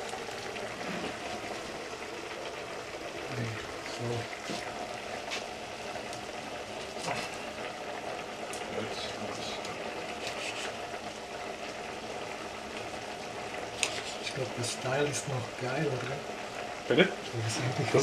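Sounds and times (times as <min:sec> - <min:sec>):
pot of broth simmering: 0:00.0 - 0:18.0.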